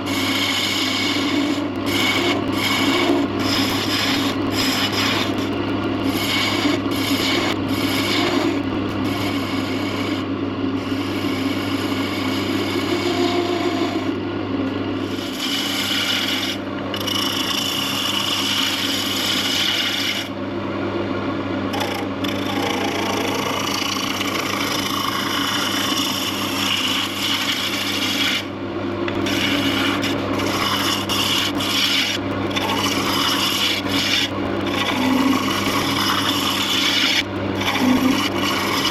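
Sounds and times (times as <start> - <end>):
tool rasping on spinning wood: 0.0 - 14.1, 15.0 - 20.4, 21.7 - 28.5, 29.1 - 38.9
wood lathe motor humming: 0.0 - 14.2, 14.9 - 20.4, 21.7 - 28.5, 29.1 - 38.9.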